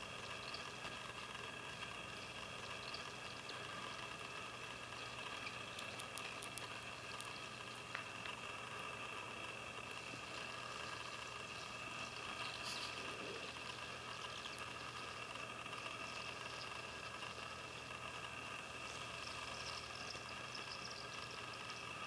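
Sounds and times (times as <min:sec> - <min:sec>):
background hum with high whine: 0:00.0 - 0:22.0.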